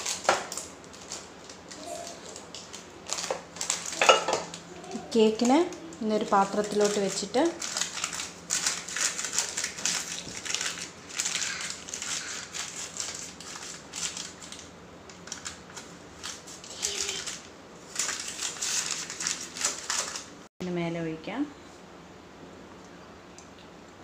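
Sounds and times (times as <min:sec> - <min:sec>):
baking paper rustling: 0:00.0 - 0:20.5.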